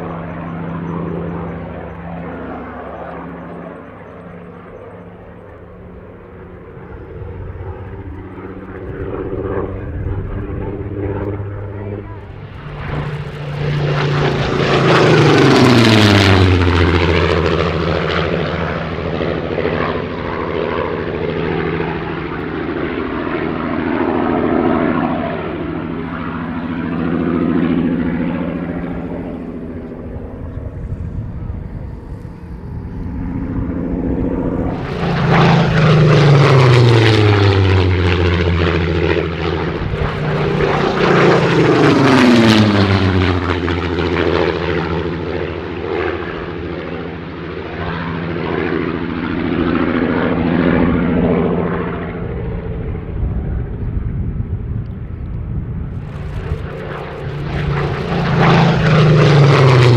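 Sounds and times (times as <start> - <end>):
propeller plane engine passing: 0.0 - 59.9.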